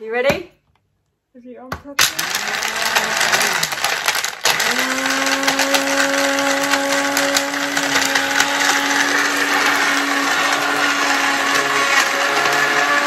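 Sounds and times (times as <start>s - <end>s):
blender motor running: 2.0s - 13.0s.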